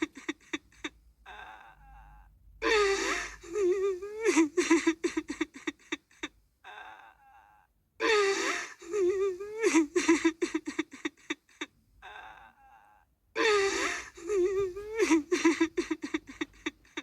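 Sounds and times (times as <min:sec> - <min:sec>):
woman crying and sobbing: 0:00.0 - 0:17.0.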